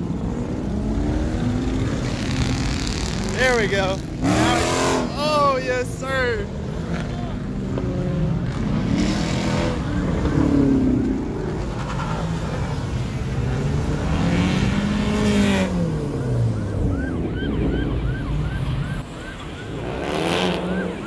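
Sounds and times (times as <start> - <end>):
car engines revving past: 0.0 - 5.3, 6.4 - 21.0.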